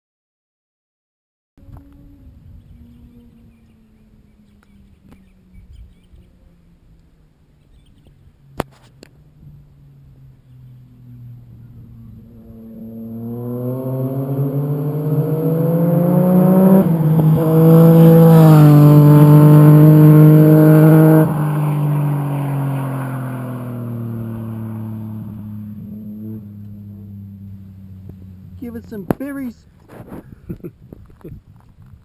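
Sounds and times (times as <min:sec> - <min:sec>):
motorcycle accelerating: 0:01.6 - 0:32.0.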